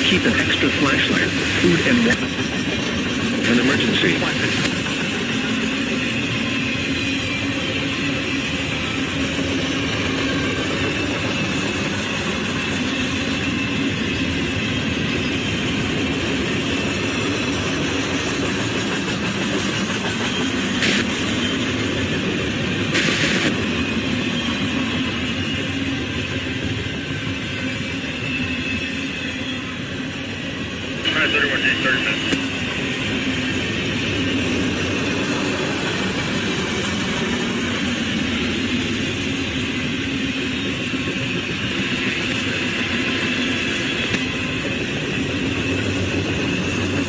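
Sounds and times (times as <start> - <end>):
freight train wheels on rails: 0.0 - 47.0.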